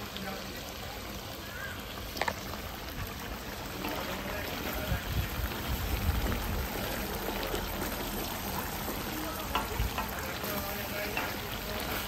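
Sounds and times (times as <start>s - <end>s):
curry bubbling in a wok: 0.0s - 12.0s.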